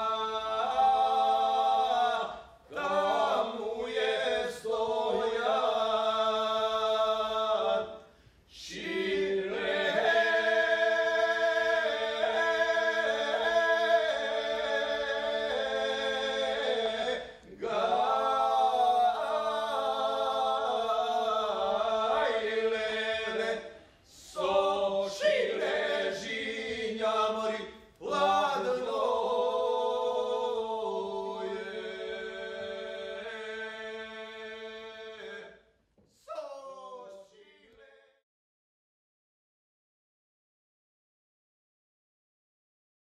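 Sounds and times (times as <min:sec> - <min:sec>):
men singing in close harmony: 0:00.0 - 0:08.0, 0:08.6 - 0:35.6.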